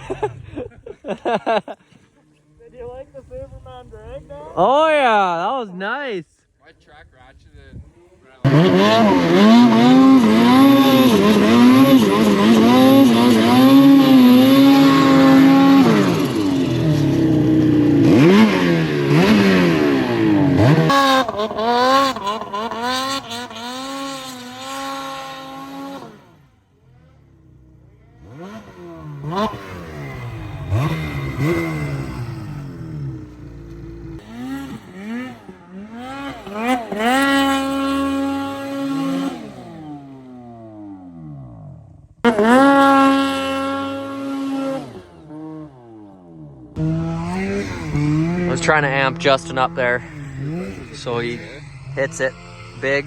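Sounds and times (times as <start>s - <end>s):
snowmobile engine revving: 0.0s - 53.0s.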